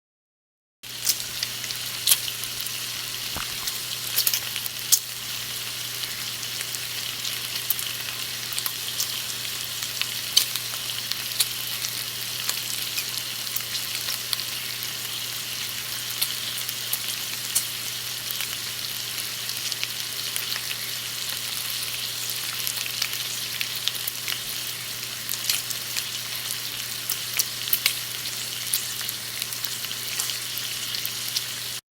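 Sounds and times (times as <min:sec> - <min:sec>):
bacon sizzling with popping fat: 0:00.8 - 0:31.8.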